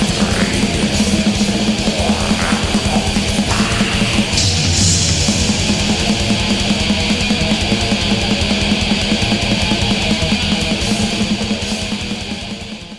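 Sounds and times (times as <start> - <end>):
heavy rock music: 0.0 - 12.9.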